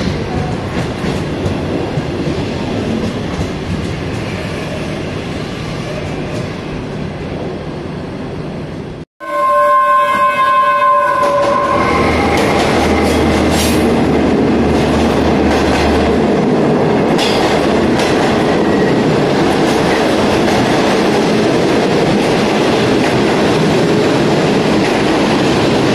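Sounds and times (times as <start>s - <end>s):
electric locomotive humming: 0.1s - 25.9s.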